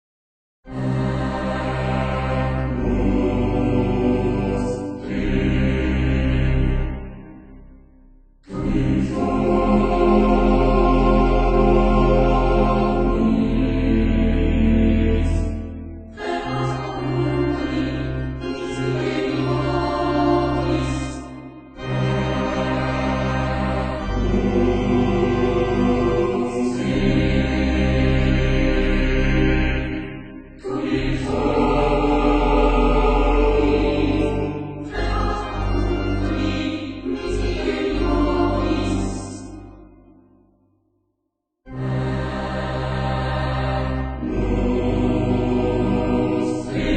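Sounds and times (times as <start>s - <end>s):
choir singing sacred music: 0.7s - 7.8s, 8.4s - 40.5s, 41.7s - 46.9s.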